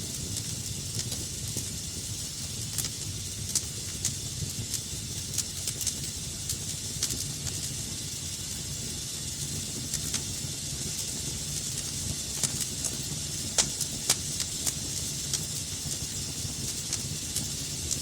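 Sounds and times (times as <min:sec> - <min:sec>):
fire crackles and pops: 0:00.0 - 0:18.0
wood fire hissing and rumbling: 0:00.0 - 0:18.0.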